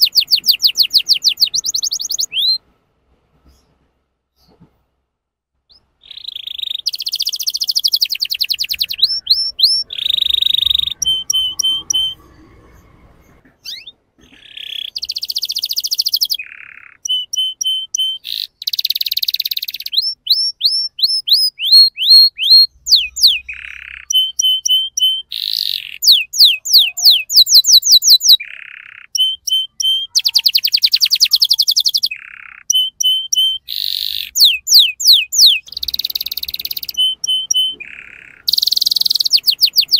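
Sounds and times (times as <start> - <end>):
canary singing: 0.0 - 2.6, 5.7 - 39.9.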